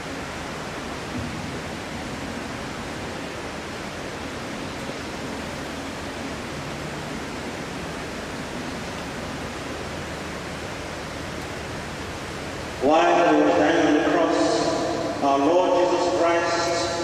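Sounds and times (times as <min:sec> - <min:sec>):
room noise hiss: 0:00.0 - 0:17.0.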